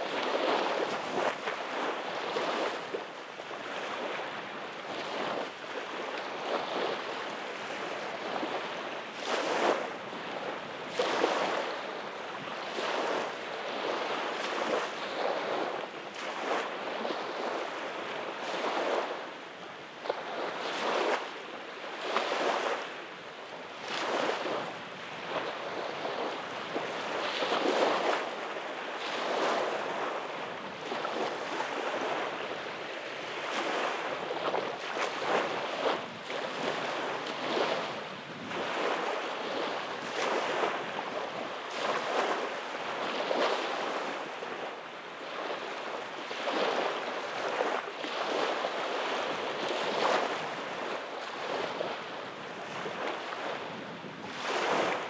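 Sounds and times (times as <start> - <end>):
waves washing up a sandy beach: 0.0 - 55.0.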